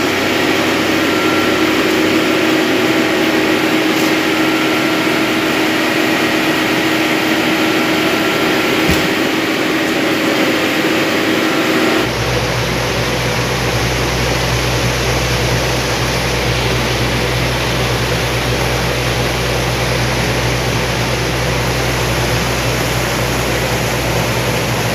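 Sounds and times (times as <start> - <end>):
cooling tower fan hum: 0.0 - 24.9
machinery hum: 0.0 - 24.9.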